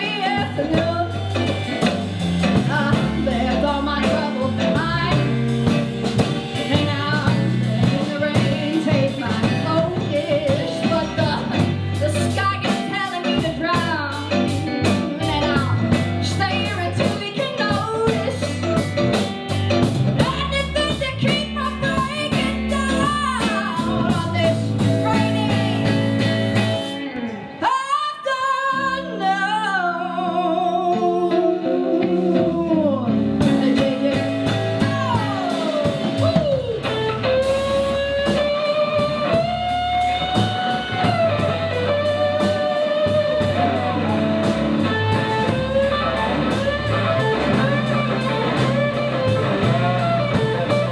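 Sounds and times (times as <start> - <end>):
person singing: 0.0 - 18.9, 20.2 - 26.3, 27.6 - 50.9
rock band playing: 0.0 - 27.7, 28.7 - 50.9
guitar lead: 0.0 - 50.9.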